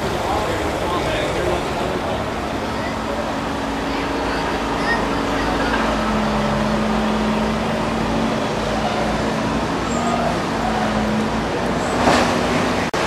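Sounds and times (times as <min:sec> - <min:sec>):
machinery noise: 0:00.0 - 0:13.0.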